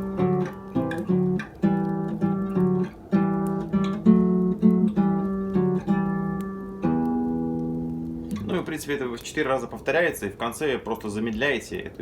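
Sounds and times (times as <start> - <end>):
nylon-string guitar plucking: 0.0 - 9.8.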